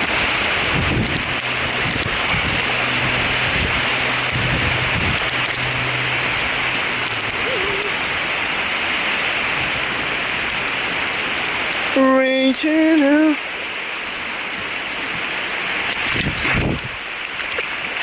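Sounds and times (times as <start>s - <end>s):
rain on foliage: 0.0s - 16.3s.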